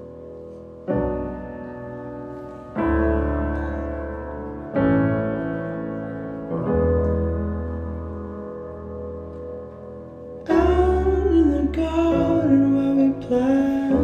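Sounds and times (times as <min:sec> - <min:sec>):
slow solo piano chords: 0:00.0 - 0:14.0.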